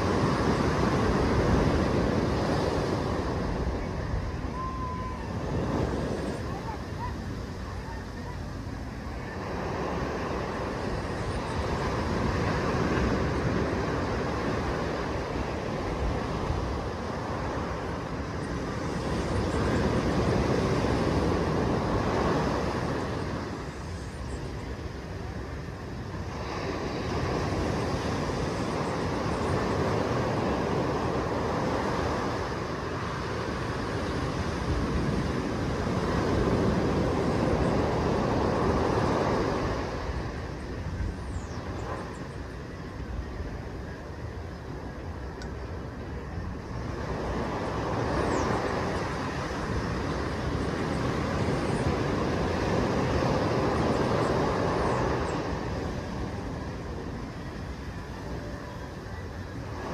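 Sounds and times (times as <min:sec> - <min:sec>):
waves washing up a beach: 0:00.0 - 0:59.9.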